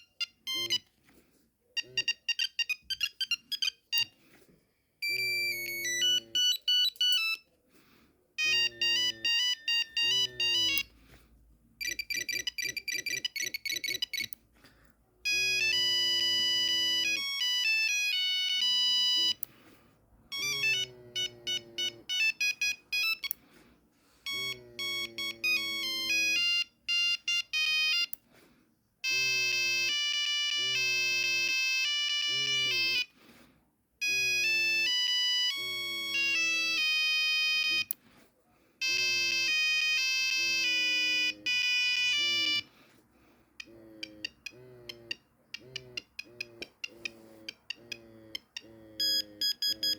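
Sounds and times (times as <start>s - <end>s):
monophonic phone ringtone melody: 0.0s - 0.9s, 1.8s - 4.2s, 5.0s - 7.5s, 8.4s - 11.0s, 11.8s - 14.4s, 15.2s - 19.4s, 20.3s - 23.4s, 24.2s - 28.2s, 29.0s - 33.1s, 34.0s - 38.0s, 38.8s - 42.7s, 43.6s - 49.9s.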